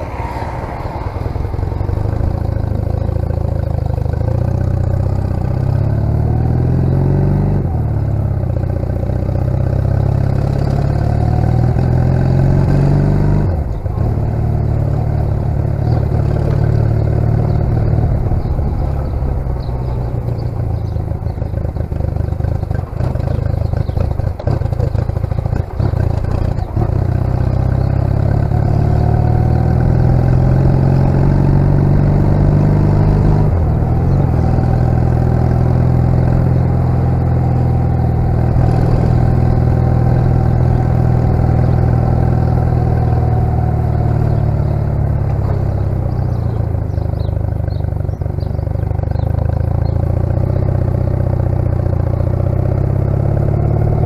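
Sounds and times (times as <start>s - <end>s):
motorcycle engine running: 1.9s - 54.0s.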